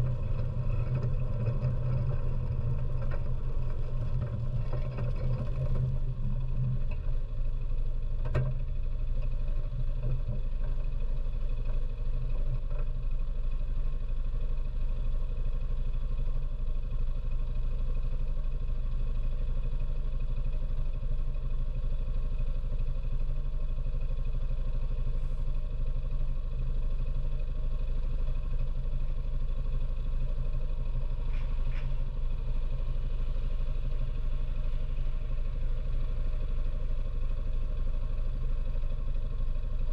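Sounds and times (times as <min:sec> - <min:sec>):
atv engine idling: 0:00.0 - 0:39.9.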